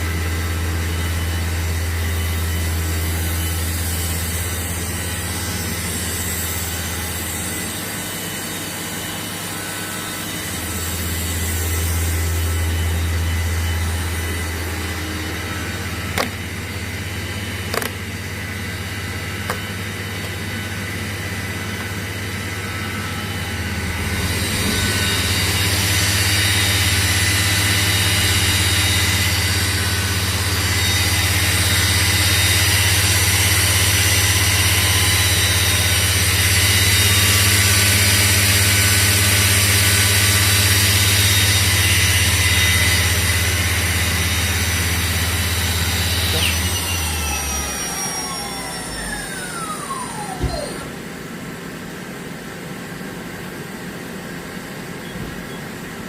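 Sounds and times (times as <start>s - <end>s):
lathe machine hum with whine: 0.0s - 56.0s.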